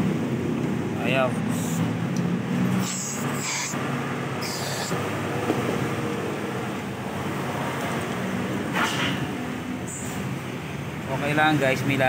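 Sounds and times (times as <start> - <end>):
vehicle noise rumble: 0.0 - 12.0.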